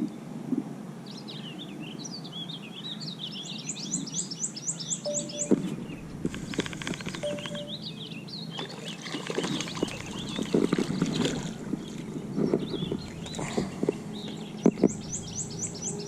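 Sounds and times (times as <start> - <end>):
birds singing: 1.0 - 16.0.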